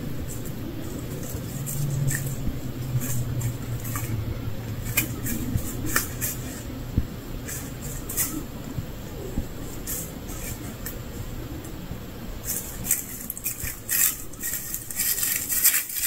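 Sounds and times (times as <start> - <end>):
dry leaves and twigs crackling: 0.0 - 11.7, 12.4 - 16.0
steady low hum: 0.0 - 16.0.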